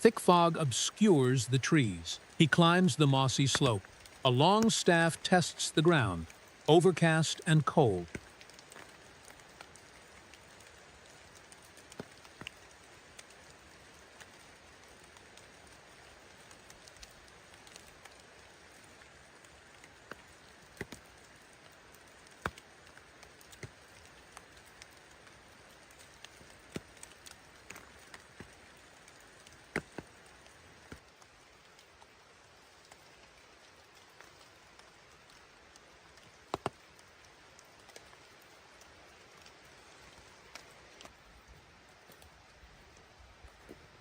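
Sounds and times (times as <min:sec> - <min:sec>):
light rain hissing: 0:00.0 - 0:44.0
louder raindrops: 0:00.0 - 0:44.0.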